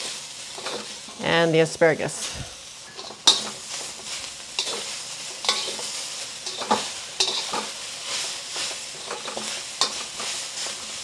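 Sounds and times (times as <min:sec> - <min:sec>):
vegetables sizzling in wok: 0:00.0 - 0:11.0
metal spatula scraping pan: 0:00.5 - 0:01.3, 0:02.9 - 0:11.0.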